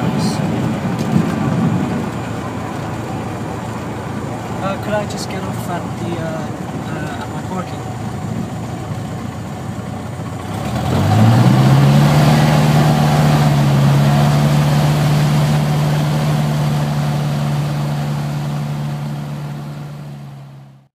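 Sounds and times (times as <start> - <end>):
light aircraft engine running: 0.0 - 20.9.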